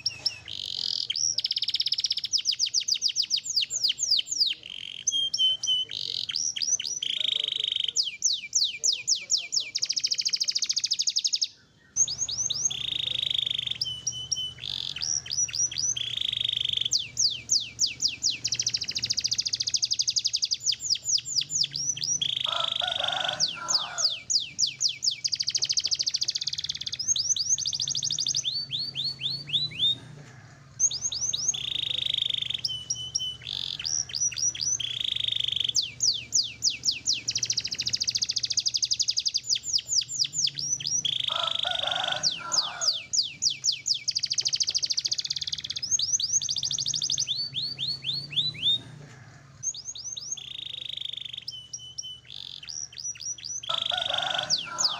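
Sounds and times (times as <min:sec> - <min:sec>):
canary singing: 0:00.0 - 0:54.9.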